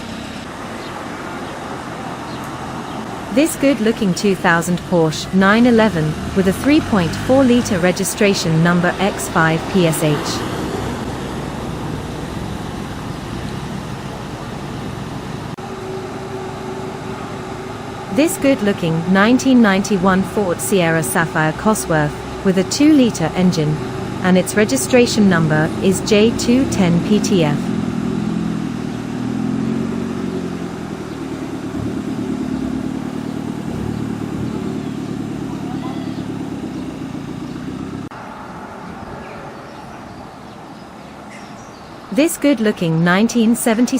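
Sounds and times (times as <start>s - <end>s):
car engine running at low revs: 0.0s - 38.3s
rumble of vehicle noise: 0.0s - 43.9s.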